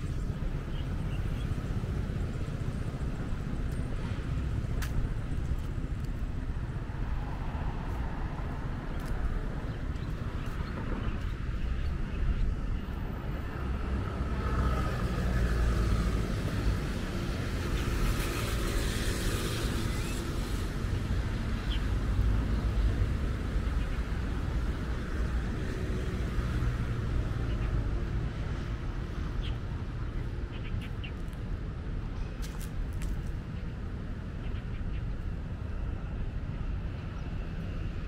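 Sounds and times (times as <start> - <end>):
traffic rumble: 0.0 - 38.0.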